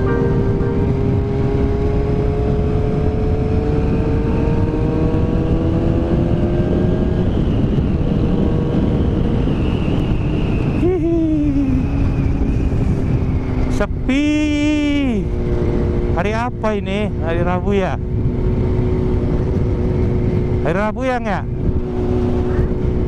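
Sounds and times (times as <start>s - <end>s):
motorcycle engine running: 0.0s - 9.4s, 10.8s - 20.7s, 21.5s - 23.0s
wind and road rush: 0.0s - 23.0s.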